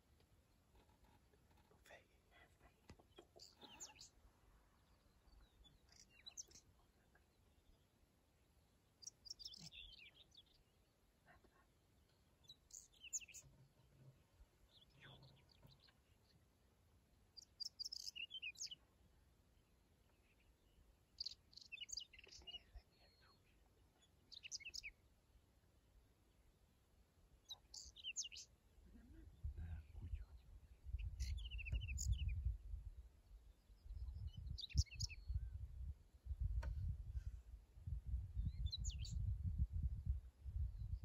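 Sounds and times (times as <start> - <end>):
birds chirping: 0.4 - 25.2, 27.4 - 36.7, 38.4 - 39.4.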